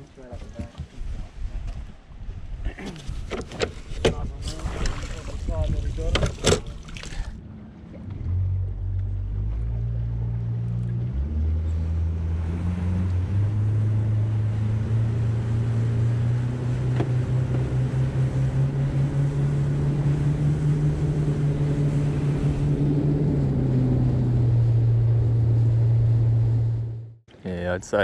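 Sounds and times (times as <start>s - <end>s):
wind and water rushing: 0.0s - 8.6s, 11.1s - 26.8s
outboard motor running: 3.0s - 27.2s.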